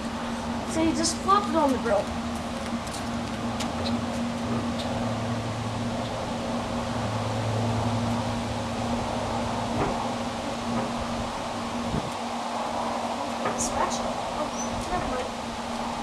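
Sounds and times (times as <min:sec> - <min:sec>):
electric fan hum: 0:00.0 - 0:16.0.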